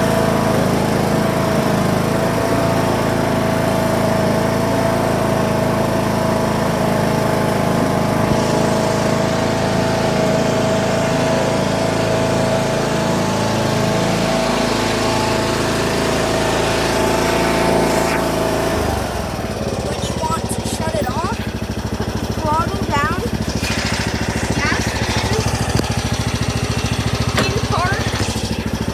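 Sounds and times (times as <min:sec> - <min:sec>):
riding lawn mower engine: 0:00.0 - 0:28.9.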